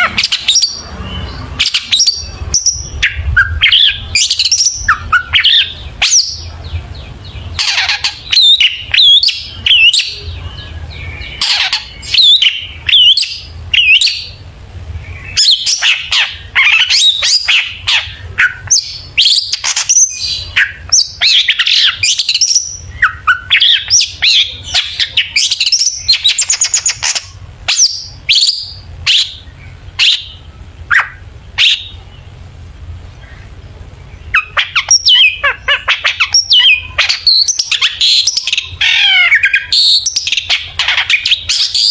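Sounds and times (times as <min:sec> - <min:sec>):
shrike singing varied song: 0:00.0 - 0:32.4, 0:33.0 - 0:41.9.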